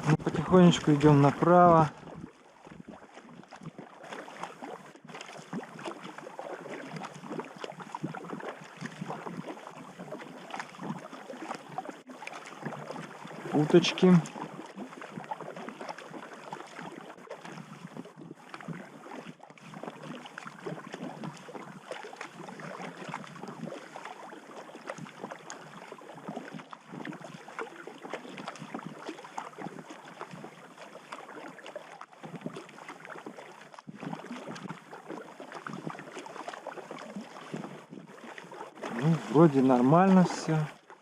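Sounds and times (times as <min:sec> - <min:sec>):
water splashing around raft: 0:00.0 - 0:41.0.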